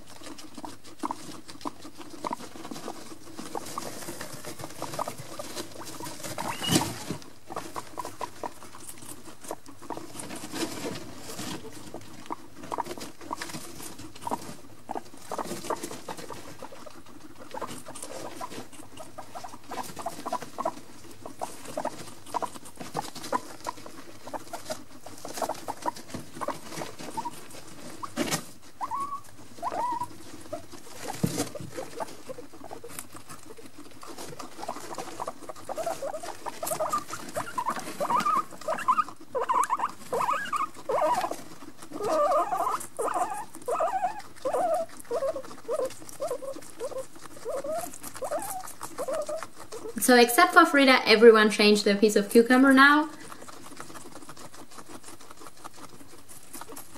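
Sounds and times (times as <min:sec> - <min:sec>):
guinea pig squeaks: 0:00.0 - 0:56.9
guinea pigs chewing: 0:00.0 - 0:56.9
scrabbling in wood shavings: 0:00.0 - 0:56.9.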